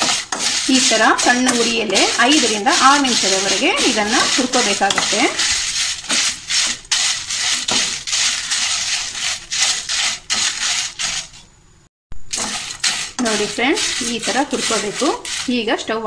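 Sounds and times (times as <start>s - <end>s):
spatula scraping dry spices: 0.0s - 11.5s, 12.3s - 16.0s.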